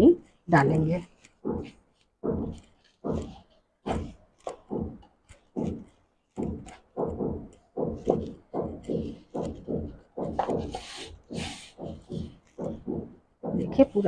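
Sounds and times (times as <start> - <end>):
hand kneading dough in steel bowl: 0.5 - 14.0.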